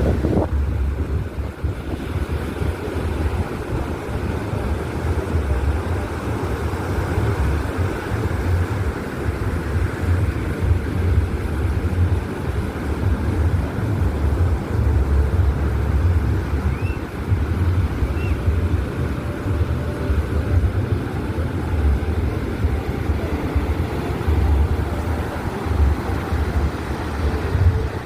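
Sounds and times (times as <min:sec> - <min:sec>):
steady outdoor hum: 0:00.0 - 0:28.0
wind rumbling on microphone: 0:00.0 - 0:28.0.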